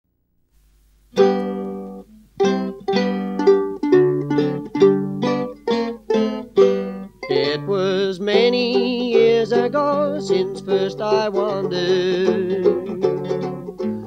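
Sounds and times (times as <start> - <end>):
plucked string chords: 1.1 - 14.0.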